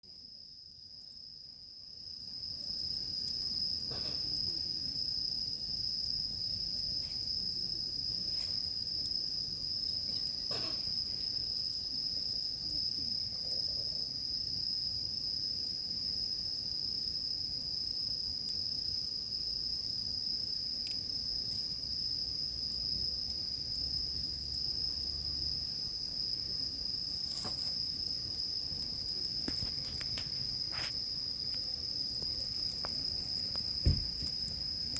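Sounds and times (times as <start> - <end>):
insects trilling: 0.2 - 34.9
campfire crackling: 1.8 - 34.9.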